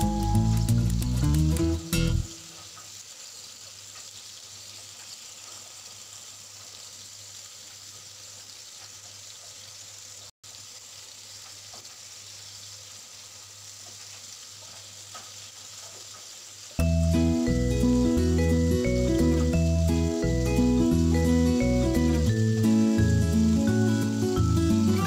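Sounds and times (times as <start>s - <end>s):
wings sizzling in hot oil: 0.0s - 25.0s.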